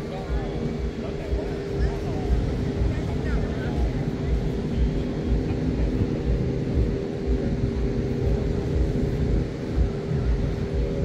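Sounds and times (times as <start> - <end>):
low uneven rumble: 0.0 - 11.0
steady engine drone: 0.0 - 11.0.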